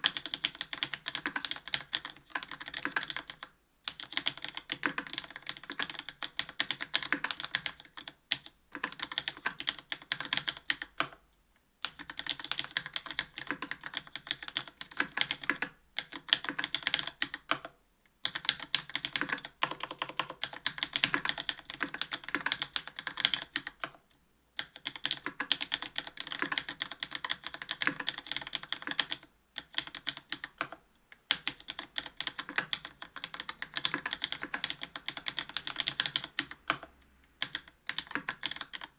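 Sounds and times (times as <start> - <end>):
mechanical keyboard typing: 0.0 - 11.2, 11.8 - 24.0, 24.6 - 38.9.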